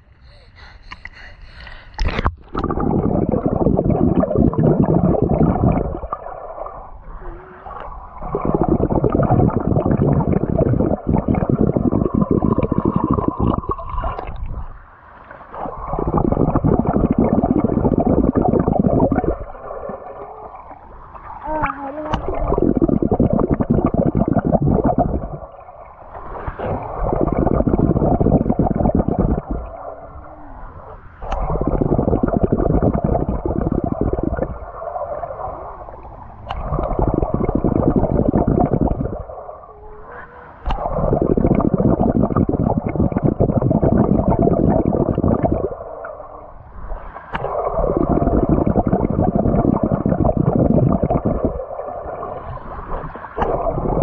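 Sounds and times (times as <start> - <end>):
underwater rushing and bubbling: 0.0 - 54.0.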